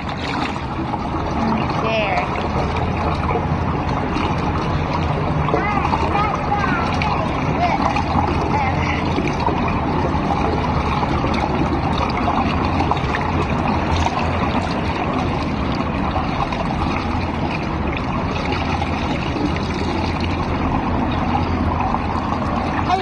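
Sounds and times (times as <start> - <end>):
pool water lapping and sloshing: 0.0 - 23.0.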